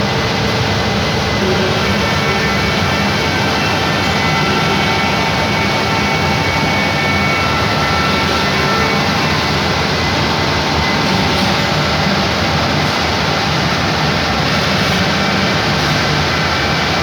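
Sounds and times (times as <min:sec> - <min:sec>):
cnc router milling wood: 0:00.0 - 0:17.0
high spindle tones: 0:01.4 - 0:17.0.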